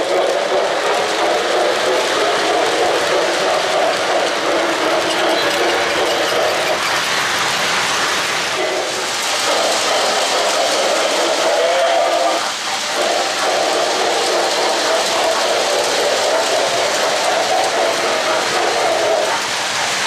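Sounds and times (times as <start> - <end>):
model trains rolling on track: 0.0 - 20.0.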